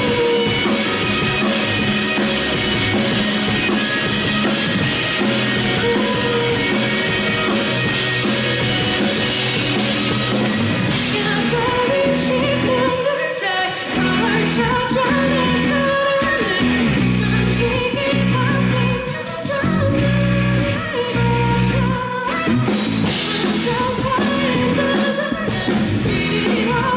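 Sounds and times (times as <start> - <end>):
live rock band playing: 0.0 - 26.9
person singing: 0.0 - 26.9.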